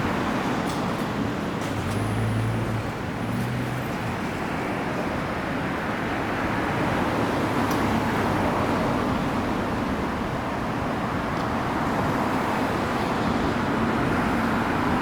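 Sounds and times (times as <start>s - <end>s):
passing vehicles rushing: 0.0s - 15.0s.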